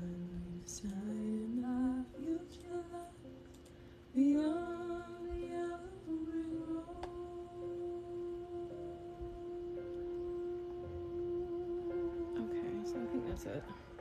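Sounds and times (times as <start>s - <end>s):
woman singing slow melody: 0.0s - 14.0s.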